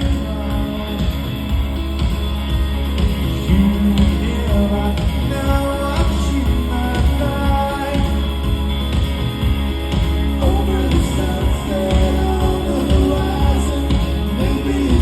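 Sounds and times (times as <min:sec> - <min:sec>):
person singing: 0:00.0 - 0:02.3, 0:03.4 - 0:09.0, 0:10.4 - 0:15.0
live rock band playing: 0:00.0 - 0:15.0.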